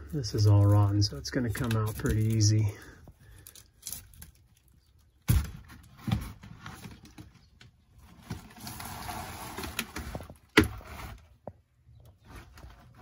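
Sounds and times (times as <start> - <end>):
paneling ripping and crumpling: 0.2 - 7.4, 8.0 - 11.4
wood paneling cracking: 0.2 - 11.4.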